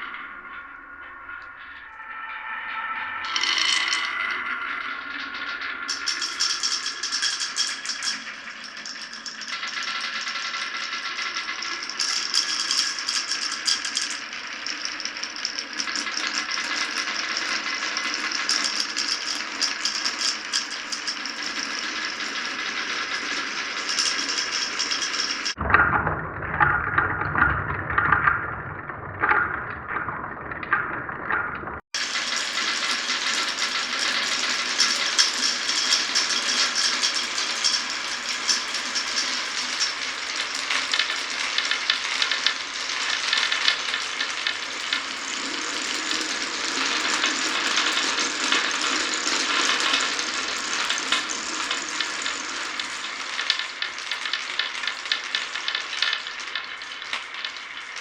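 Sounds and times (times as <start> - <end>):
marbles knocking and rolling: 0.0 - 58.0
marbles rattling on tracks: 0.0 - 58.0.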